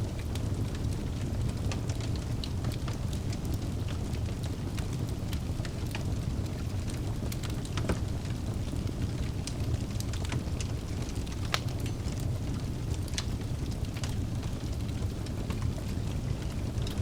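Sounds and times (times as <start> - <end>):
fire crackles and pops: 0.0 - 17.0
low rumble of flames: 0.0 - 17.0.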